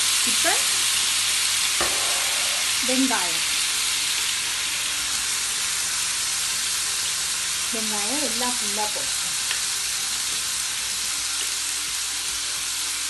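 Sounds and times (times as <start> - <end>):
paste sizzling in a frying pan: 0.0 - 13.0.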